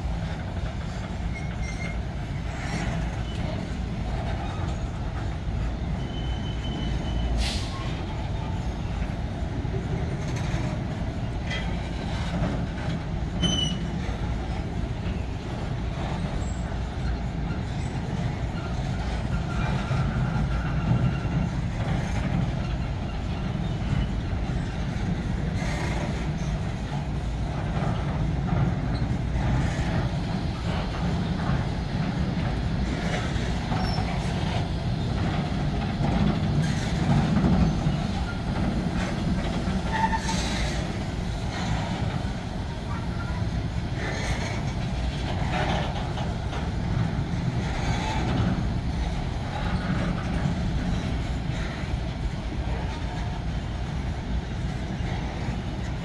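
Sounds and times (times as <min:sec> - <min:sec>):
freight train wheels rumbling: 0:00.0 - 0:56.0
train wagons clanking: 0:00.0 - 0:56.0.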